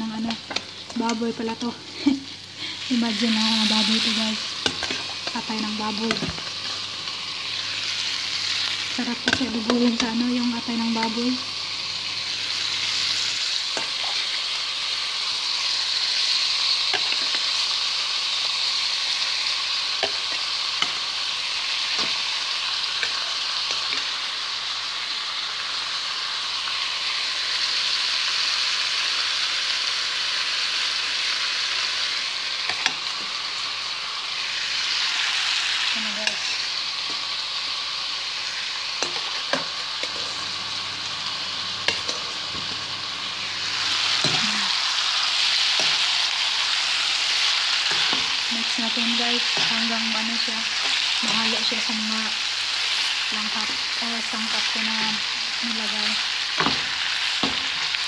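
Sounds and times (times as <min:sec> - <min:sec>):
liver sizzling in oil: 0:00.0 - 0:58.0.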